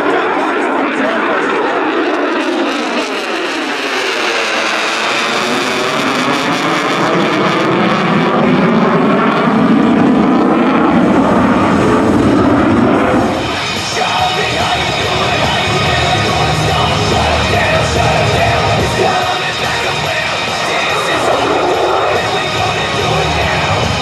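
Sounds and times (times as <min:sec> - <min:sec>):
jet aircraft passing overhead: 0:00.0 - 0:24.0.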